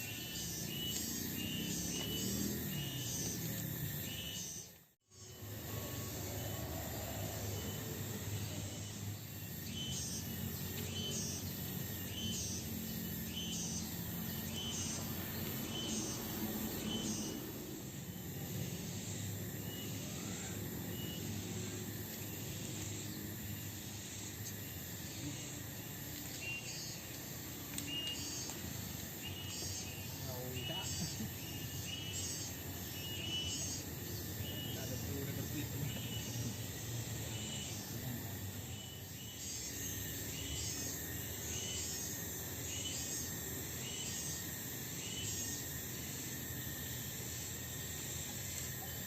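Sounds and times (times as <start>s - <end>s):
wildlife chirping: 0.0s - 49.0s.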